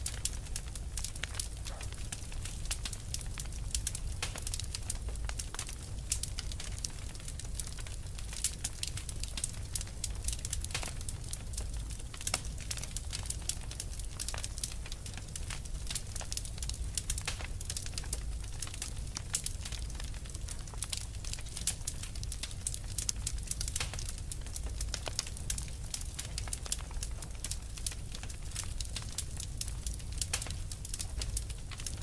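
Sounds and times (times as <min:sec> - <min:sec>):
fire crackling and popping: 0:00.0 - 0:32.0
low rumble of burning: 0:00.0 - 0:32.0.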